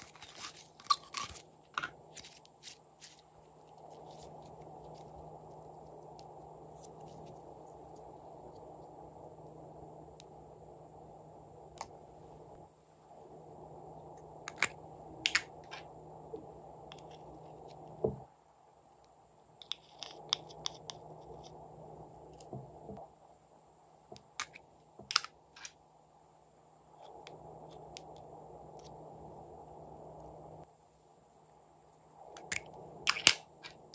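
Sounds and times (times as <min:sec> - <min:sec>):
low background hiss: 0:00.0 - 0:33.9.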